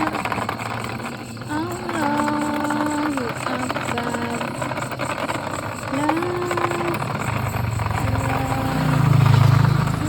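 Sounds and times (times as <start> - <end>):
long held tones: 0.0 - 10.0
vehicle engine running: 0.0 - 10.0.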